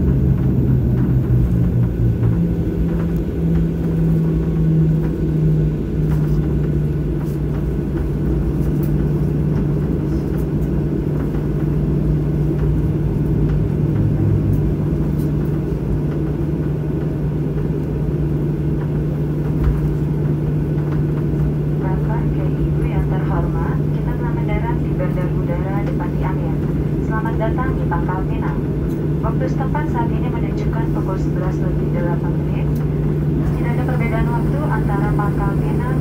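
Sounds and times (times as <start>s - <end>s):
low jet engine hum: 0.0s - 36.0s
wheels rumbling on runway: 0.0s - 36.0s.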